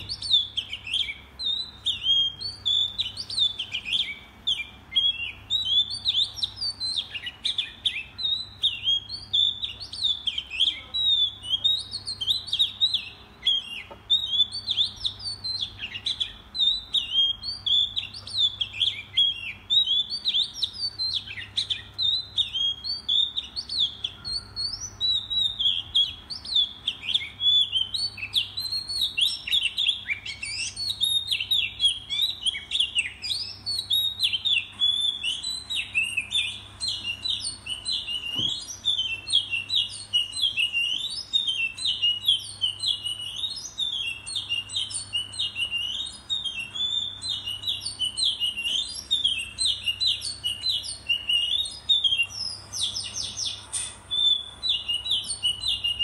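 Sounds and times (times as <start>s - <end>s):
songbird chirping and trilling: 0.0s - 56.0s.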